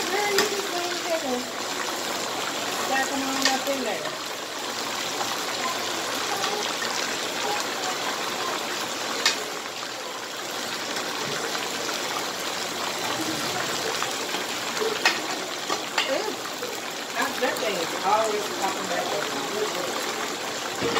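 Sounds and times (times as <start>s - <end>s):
chicken sizzling in hot oil: 0.0s - 20.9s.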